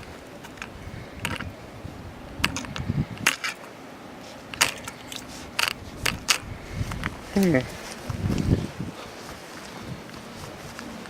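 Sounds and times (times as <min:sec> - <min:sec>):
footsteps outdoors: 0:00.0 - 0:11.0.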